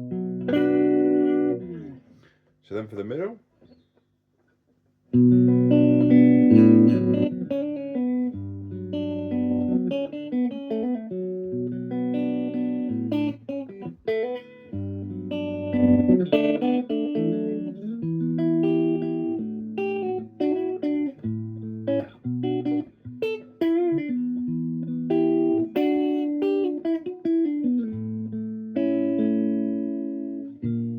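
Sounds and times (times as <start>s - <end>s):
strummed electric guitar chords: 0.0s - 2.1s, 5.2s - 30.9s
guitar fret buzz: 0.0s - 2.3s, 5.2s - 30.9s.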